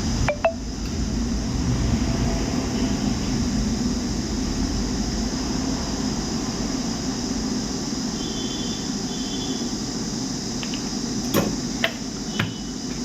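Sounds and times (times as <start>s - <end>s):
hot-air station blowing: 0.0s - 13.0s.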